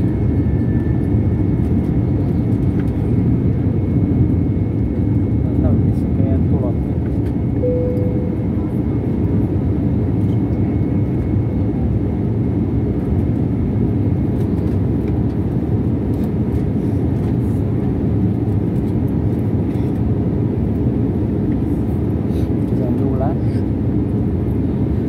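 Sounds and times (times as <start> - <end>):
jet airliner cabin rumble: 0.0 - 25.0.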